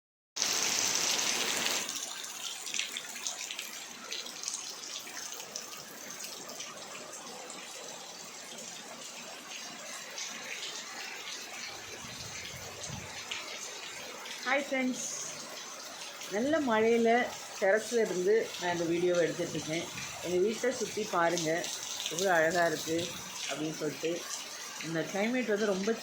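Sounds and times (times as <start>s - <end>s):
heavy rain falling: 0.4s - 26.0s
raindrops splattering: 0.4s - 26.0s.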